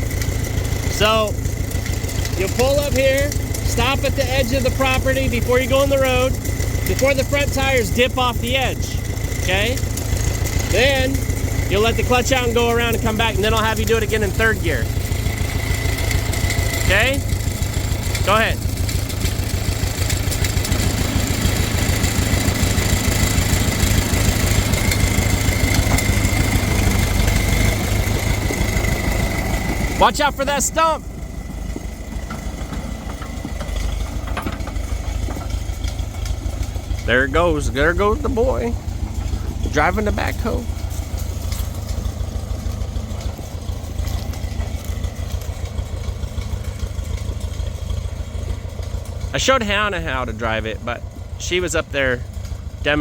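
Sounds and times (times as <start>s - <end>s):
backhoe engine running: 0.0s - 53.0s.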